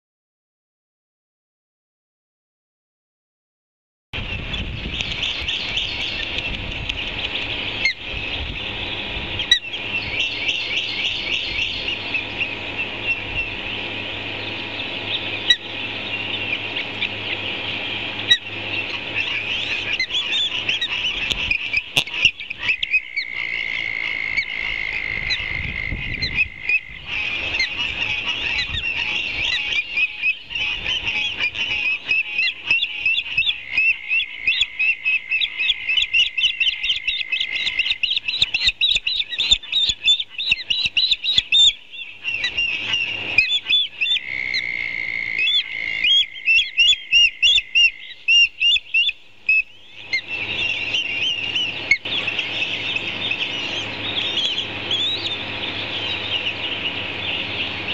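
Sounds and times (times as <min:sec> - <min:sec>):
ospreys chirping: 0:04.2 - 0:57.9.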